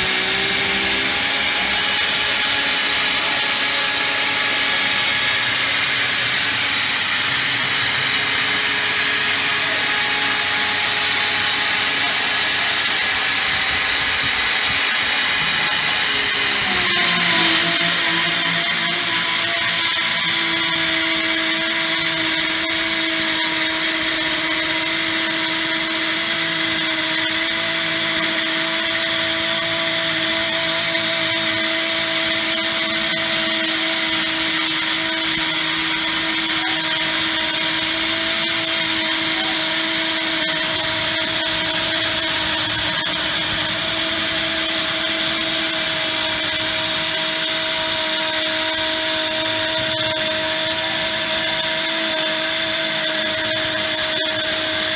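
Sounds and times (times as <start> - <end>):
machine motor whine: 0.0 - 54.9.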